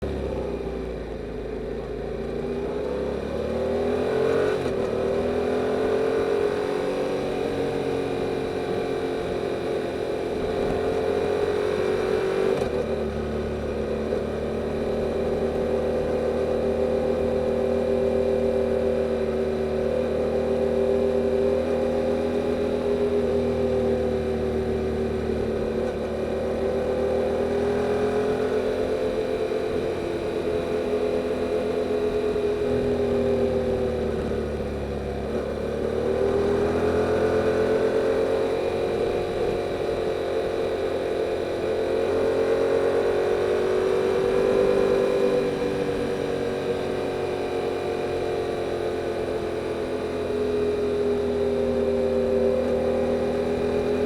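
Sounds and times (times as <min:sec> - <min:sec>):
motorcycle engine under way: 0:00.0 - 0:54.0.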